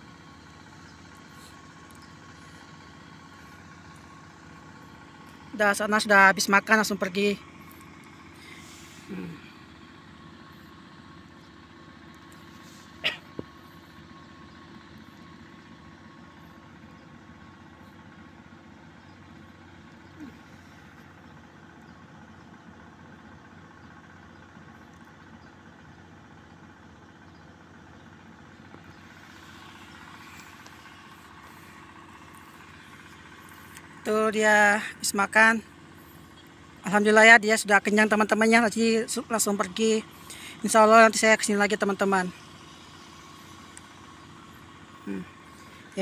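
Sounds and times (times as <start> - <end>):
distant traffic rumble: 0.0 - 46.0.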